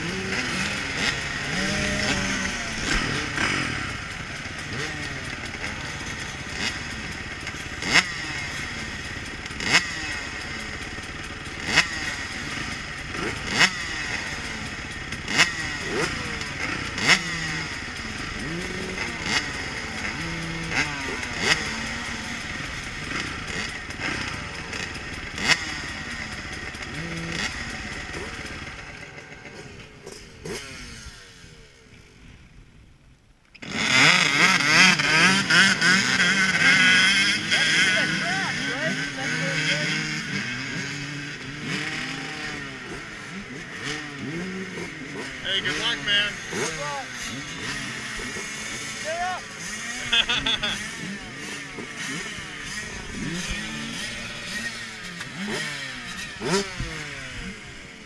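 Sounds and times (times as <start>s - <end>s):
dirt bike engine revving: 0.0s - 32.5s, 33.6s - 58.0s.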